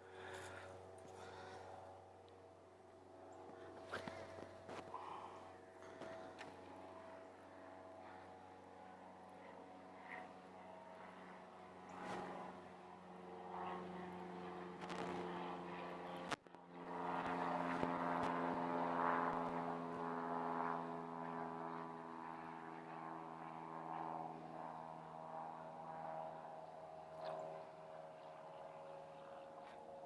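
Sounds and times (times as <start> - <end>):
steady engine drone: 0.0 - 30.0.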